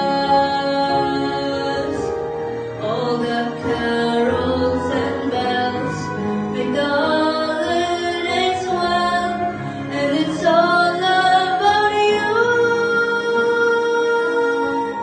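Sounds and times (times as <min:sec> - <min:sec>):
girl singing into microphone: 0:02.8 - 0:15.0.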